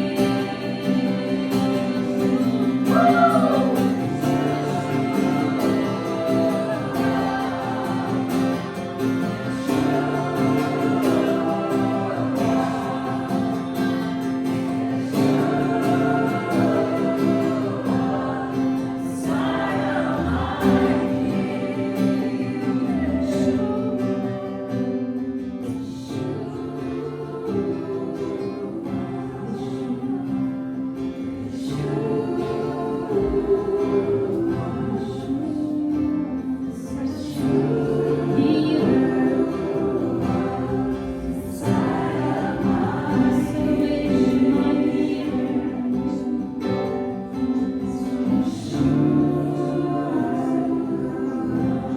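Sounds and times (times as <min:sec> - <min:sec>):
voices singing worship music: 0:00.0 - 0:51.9.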